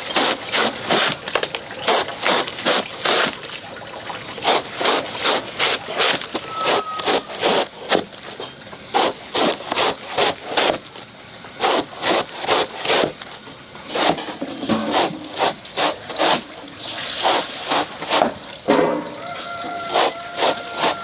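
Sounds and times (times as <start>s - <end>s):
hand saw cutting wood: 0.0s - 3.4s, 4.4s - 11.0s, 11.6s - 18.4s, 19.7s - 21.0s.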